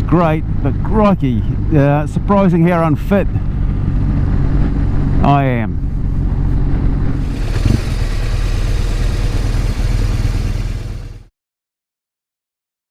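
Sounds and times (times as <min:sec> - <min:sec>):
motorcycle engine running: 0:00.0 - 0:11.3
road noise: 0:00.0 - 0:11.3.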